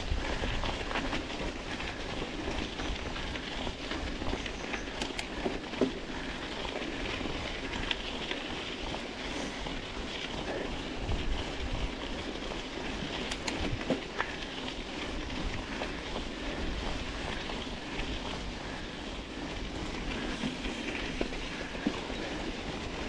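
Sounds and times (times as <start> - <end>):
bike rattling: 0.0 - 23.0
bike tyre noise on trail: 0.0 - 23.0.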